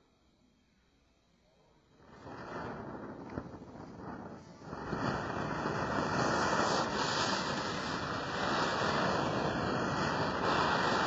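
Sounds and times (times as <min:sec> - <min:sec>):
ground firework hissing: 0:01.9 - 0:11.0.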